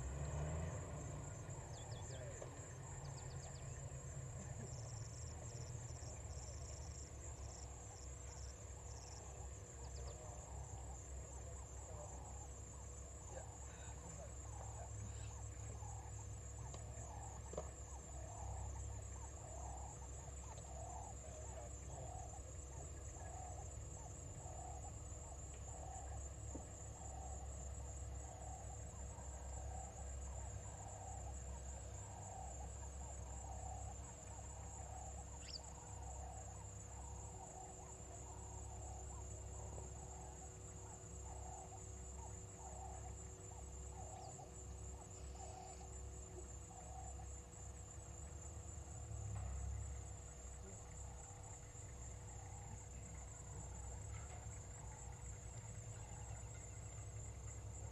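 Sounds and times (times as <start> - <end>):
high insect trill: 0.0 - 57.9.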